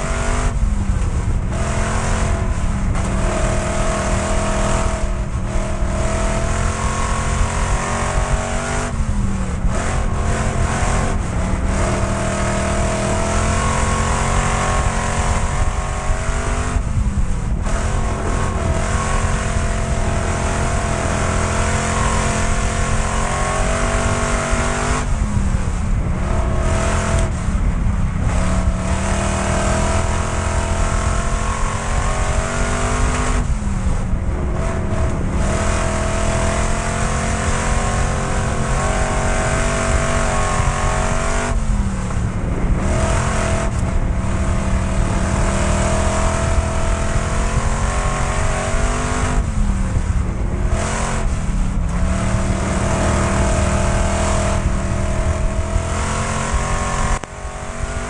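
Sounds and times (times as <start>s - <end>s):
race car engine at high revs: 0.0s - 58.0s
track noise: 0.0s - 58.0s
wind noise: 0.0s - 58.0s.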